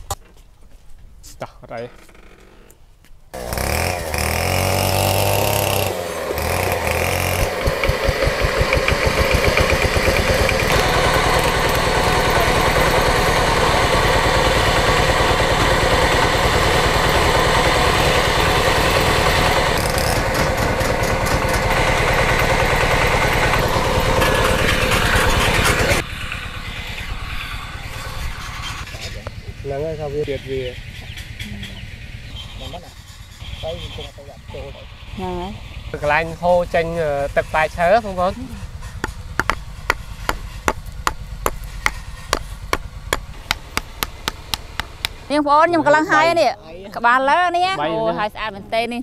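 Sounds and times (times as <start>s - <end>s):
small engine running: 3.3s - 46.5s.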